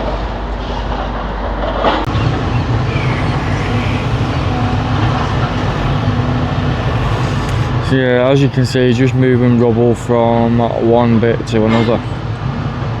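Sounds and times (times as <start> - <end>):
diesel engines rumbling: 2.0 - 13.0
deep engine drone: 2.1 - 13.0.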